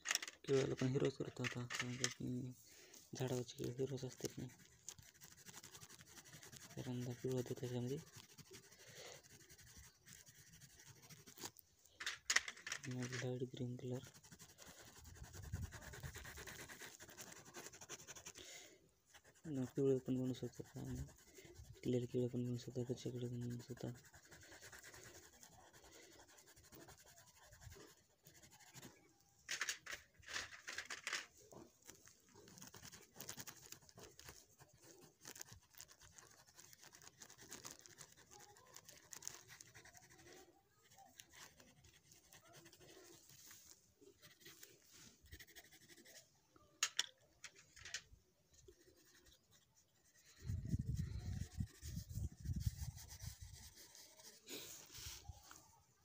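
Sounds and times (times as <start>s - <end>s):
pencil scratching on paper: 3.2s - 46.3s, 48.5s - 55.3s.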